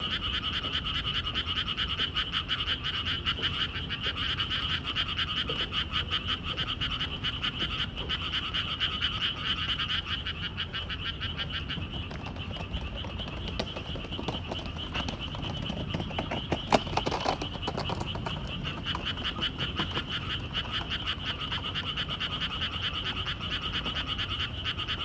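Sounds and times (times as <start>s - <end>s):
chorus of frogs croaking: 0.0s - 25.0s.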